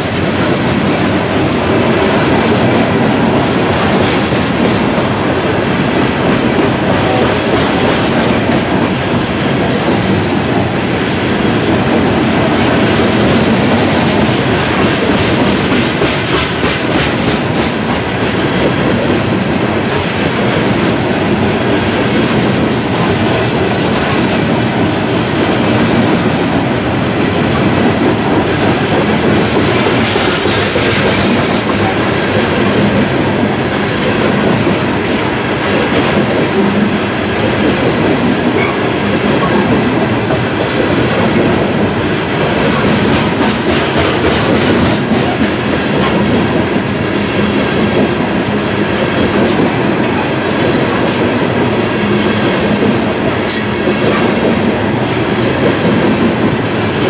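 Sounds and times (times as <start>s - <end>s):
train wheels rolling over rails: 0.0s - 57.0s.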